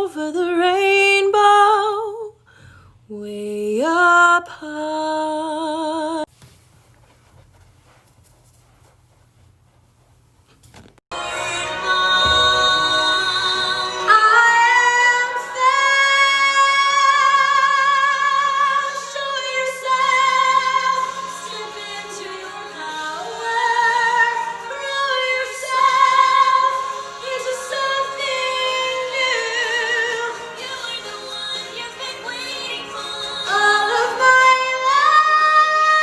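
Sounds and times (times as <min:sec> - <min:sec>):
woman singing operatically: 0:00.0 - 0:02.4, 0:03.1 - 0:06.3, 0:11.3 - 0:36.0.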